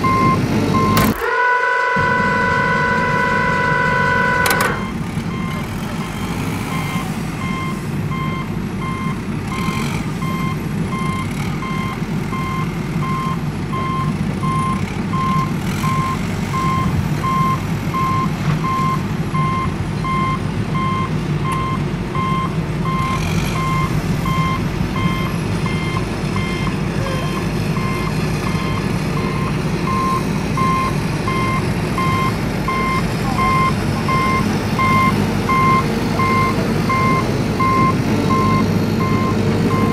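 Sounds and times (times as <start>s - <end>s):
truck reversing alarm beeping: 0.0s - 39.9s
low engine rumble: 1.9s - 39.9s.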